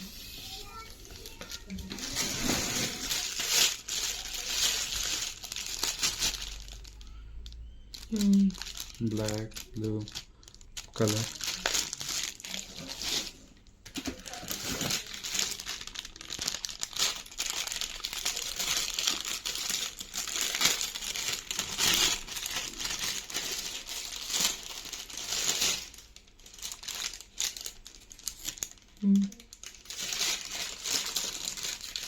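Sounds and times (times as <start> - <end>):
packaging crinkling and rustling: 0.4 - 32.0.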